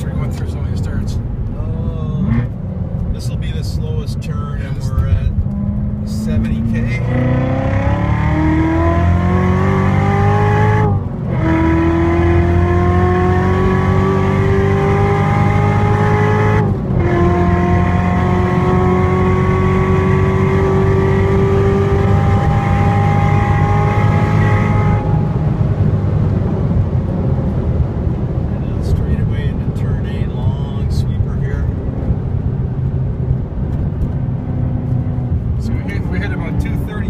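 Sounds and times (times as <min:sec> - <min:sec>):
car engine at full throttle: 0:00.0 - 0:37.0.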